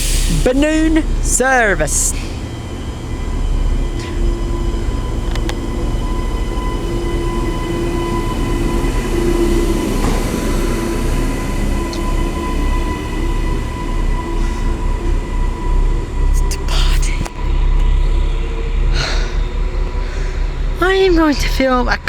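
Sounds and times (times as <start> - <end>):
electric whine: 0.0 - 21.6
train rumble: 0.0 - 22.0.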